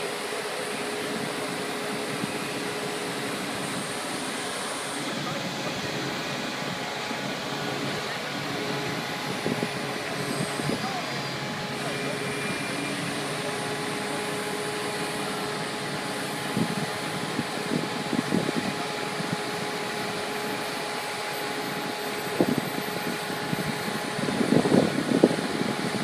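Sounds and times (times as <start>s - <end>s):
concrete pump humming: 0.0s - 26.0s.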